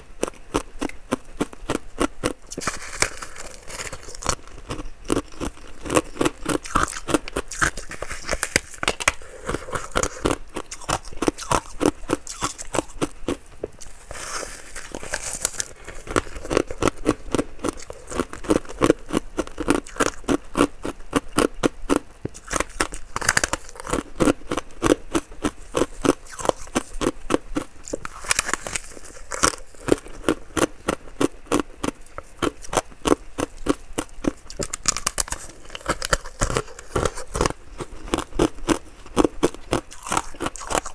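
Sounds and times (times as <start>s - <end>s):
ice crunching while chewed: 0.0s - 40.9s.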